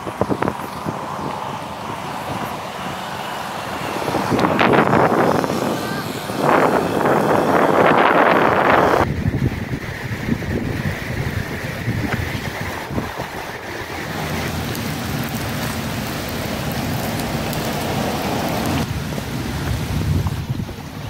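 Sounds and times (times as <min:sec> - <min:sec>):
rain: 0:00.0 - 0:21.0
wind buffeting microphone: 0:00.0 - 0:21.0.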